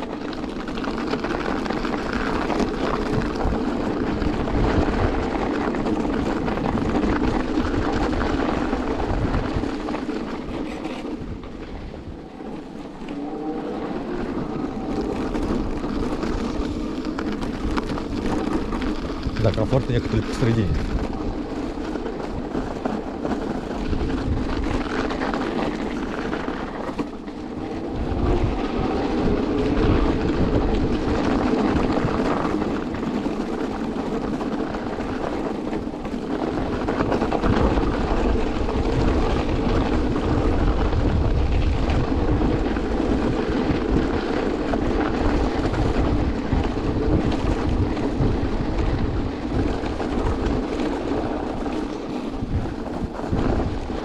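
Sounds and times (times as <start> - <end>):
tyres and wind rumble: 0.0 - 54.0.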